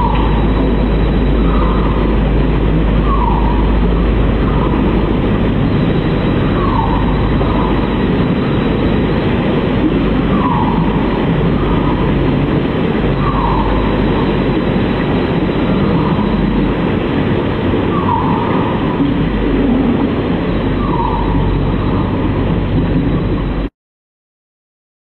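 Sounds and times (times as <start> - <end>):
processed noise with low rumble: 0.0 - 23.7.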